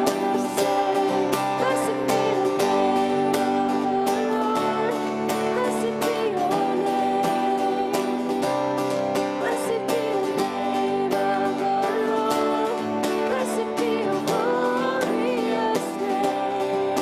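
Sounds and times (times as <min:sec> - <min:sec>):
people singing: 0:00.0 - 0:17.0
strummed acoustic guitar: 0:00.0 - 0:17.0.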